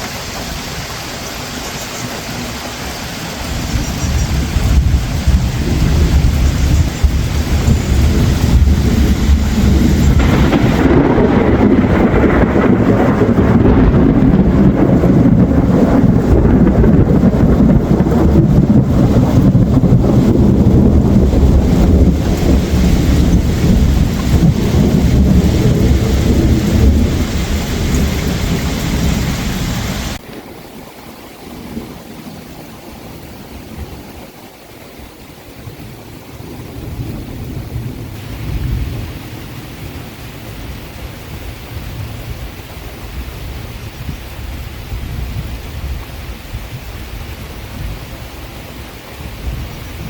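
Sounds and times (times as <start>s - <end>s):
thunder rumbling: 0.0s - 34.1s, 35.6s - 50.0s
steady rain: 0.0s - 50.0s.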